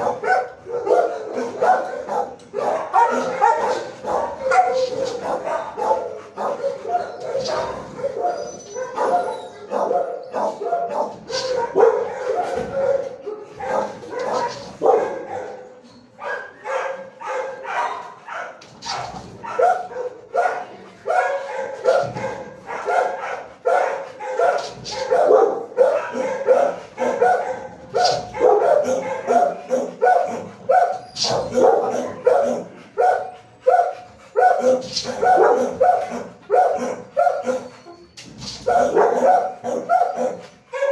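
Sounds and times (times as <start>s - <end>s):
many dogs barking: 0.0s - 40.9s.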